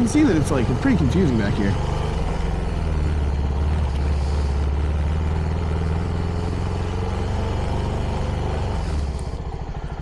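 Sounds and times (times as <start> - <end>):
motorcycle engine running at low revs: 0.0 - 10.0.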